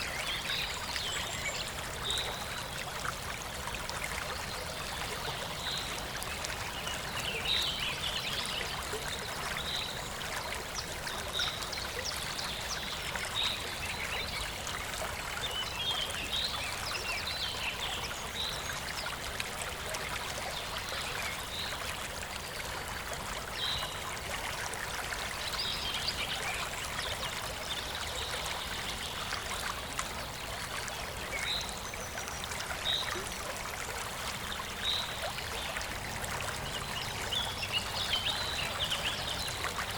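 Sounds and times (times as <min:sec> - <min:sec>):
trickling stream: 0:00.0 - 0:39.9.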